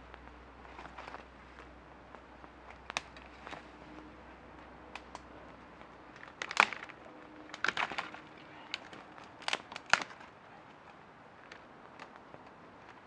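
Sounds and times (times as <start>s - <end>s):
campfire crackling and popping: 0.0s - 3.8s, 4.5s - 13.0s.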